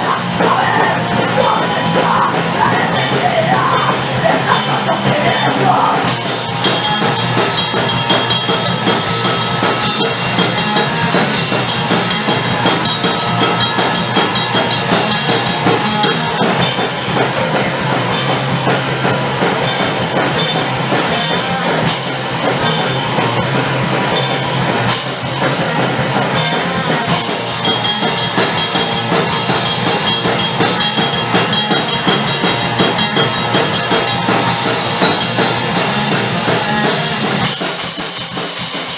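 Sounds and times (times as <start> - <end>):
bass guitar: 0.0 - 38.9
distorted guitars: 0.0 - 38.9
fast driving drum kit: 0.0 - 38.9.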